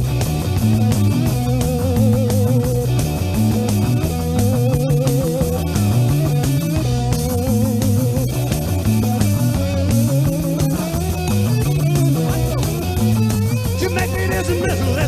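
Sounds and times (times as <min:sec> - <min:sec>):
bass and drums: 0:00.0 - 0:15.0
electric guitar: 0:00.0 - 0:15.0.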